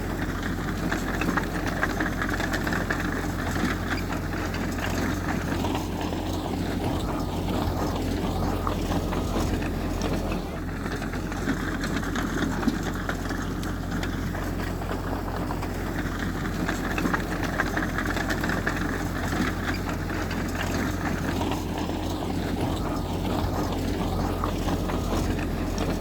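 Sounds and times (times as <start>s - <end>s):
heavy diesel engine rattling: 0.0s - 26.0s.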